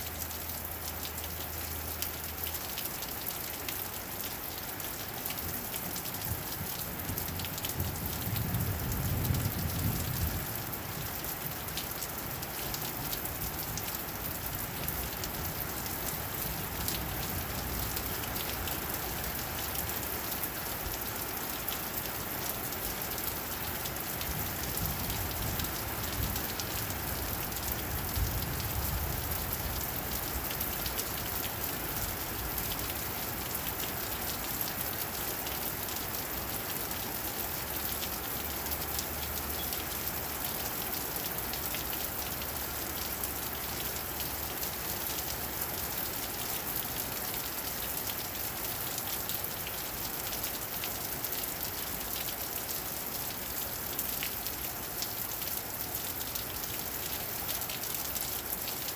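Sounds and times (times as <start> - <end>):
rain falling on pavement: 0.0 - 58.9.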